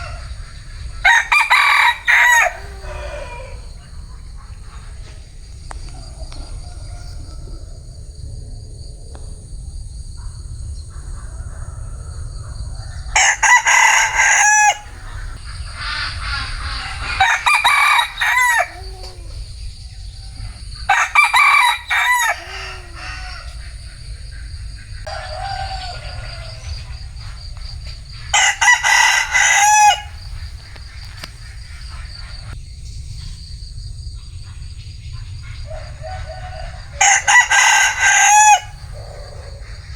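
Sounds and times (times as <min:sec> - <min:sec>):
fainter rooster crows: 0:00.0 - 0:09.2, 0:11.2 - 0:32.6, 0:35.5 - 0:39.9
rooster crowing: 0:00.0 - 0:10.2, 0:10.8 - 0:32.6, 0:35.4 - 0:39.9
steady low rumble: 0:00.0 - 0:29.4, 0:30.0 - 0:38.0.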